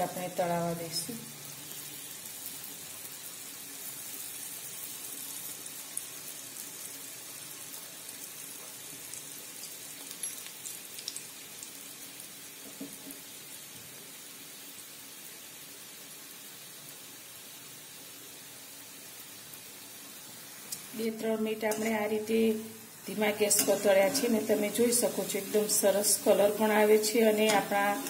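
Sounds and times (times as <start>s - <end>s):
deep-frying sizzle with crackles: 0.0s - 28.0s.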